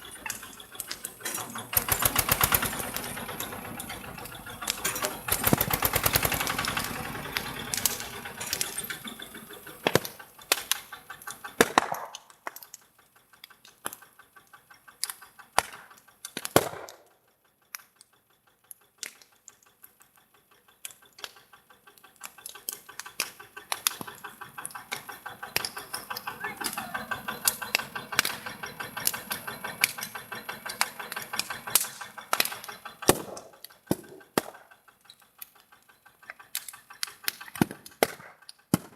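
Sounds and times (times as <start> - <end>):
fire popping and crackling: 0.0 - 38.9
tractor engine running: 0.0 - 38.9.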